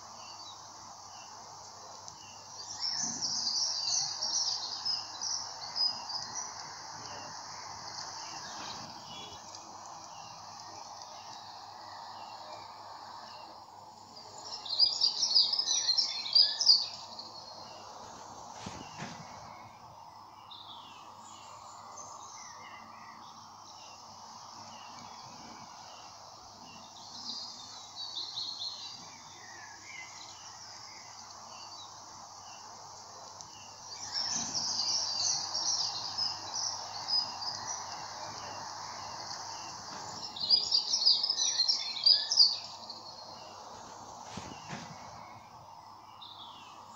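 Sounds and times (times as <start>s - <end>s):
outdoor background hiss: 0.0s - 46.9s.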